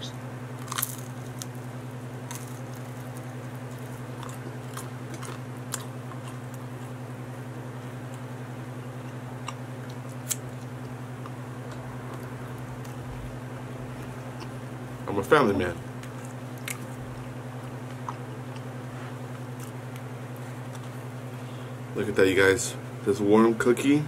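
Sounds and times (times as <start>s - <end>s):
low hum: 0.0s - 23.2s
chewing pizza: 0.5s - 21.1s.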